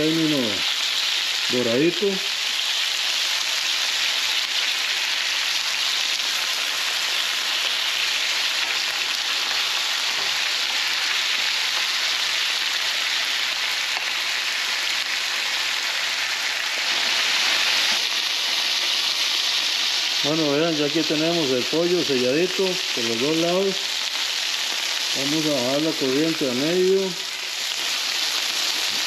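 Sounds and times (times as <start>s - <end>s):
chicken sizzling in a skillet: 0.0s - 29.0s.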